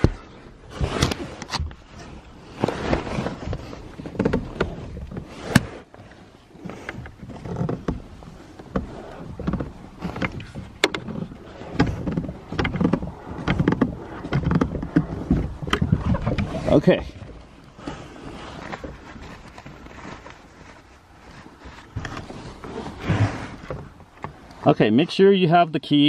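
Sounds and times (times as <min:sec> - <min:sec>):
rustling and shuffling: 0:00.0 - 0:26.0.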